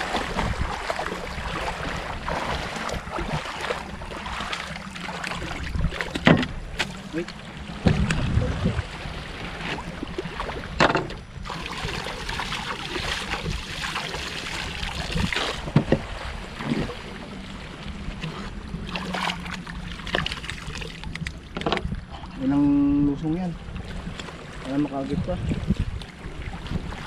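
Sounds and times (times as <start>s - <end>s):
seawater sloshing and splashing: 0.0s - 22.6s, 23.3s - 27.0s
low steady hum: 0.0s - 27.0s.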